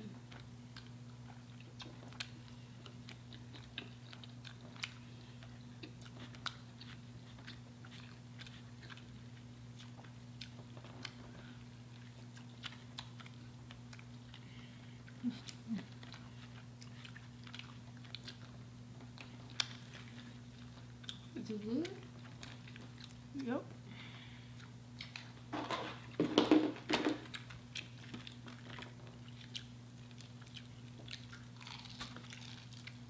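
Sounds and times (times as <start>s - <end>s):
crunchy chewing: 0.2s - 23.4s, 24.0s - 26.3s, 27.2s - 33.0s.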